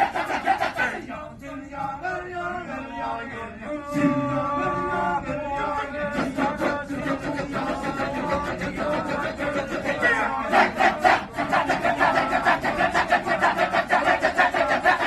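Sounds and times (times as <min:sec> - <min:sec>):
rapid rhythmic pulse: 0:00.0 - 0:02.5, 0:03.4 - 0:15.0
men chanting: 0:00.0 - 0:15.0.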